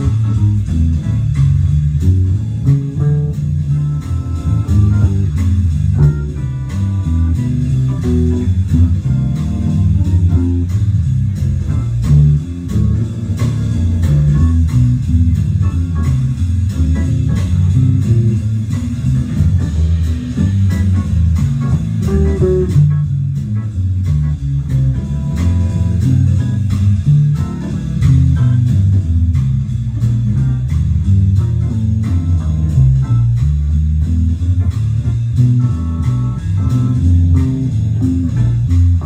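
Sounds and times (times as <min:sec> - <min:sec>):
bluesy guitar music with bass: 0:00.0 - 0:39.0.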